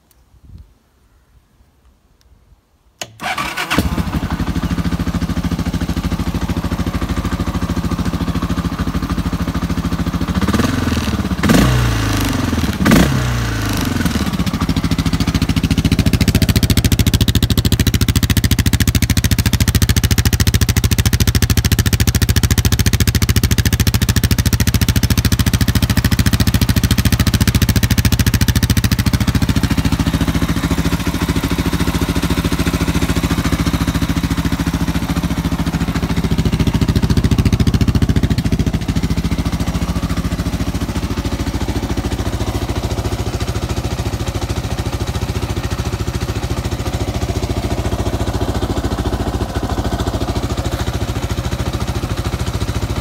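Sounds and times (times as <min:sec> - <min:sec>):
motorcycle engine starting and idling: 0:03.0 - 0:53.0.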